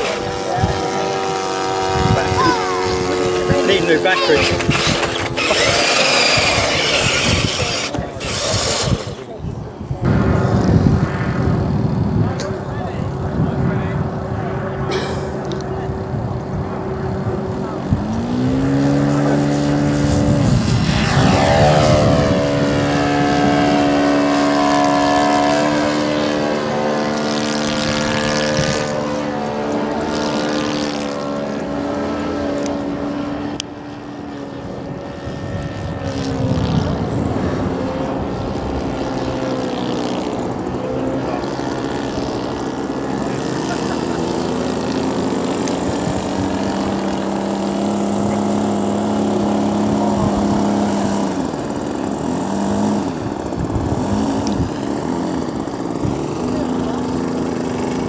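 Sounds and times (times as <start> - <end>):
model aeroplane propellers droning: 0.0 - 58.0.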